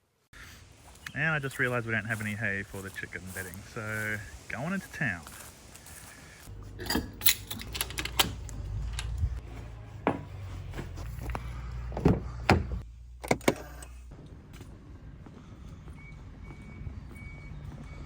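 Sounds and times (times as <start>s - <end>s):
vehicle engine humming: 0.7s - 18.0s.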